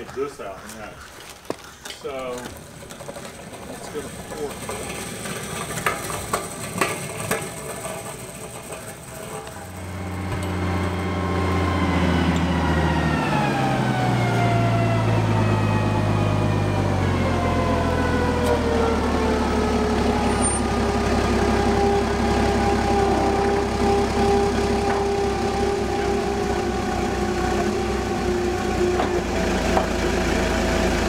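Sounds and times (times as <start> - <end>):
forklift engine running: 2.2 - 31.0.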